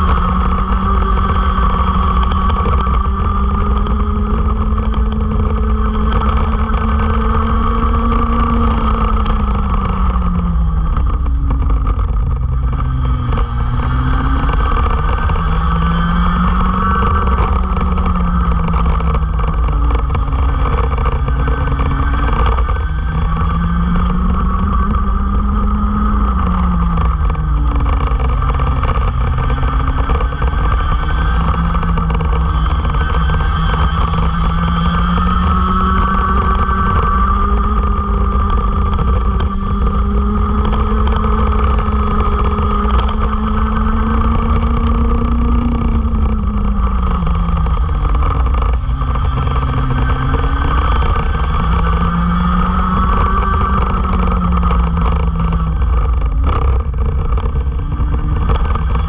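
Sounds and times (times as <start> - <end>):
go-kart engines accelerating: 0.0 - 59.0
heavy low rumble: 0.0 - 59.0.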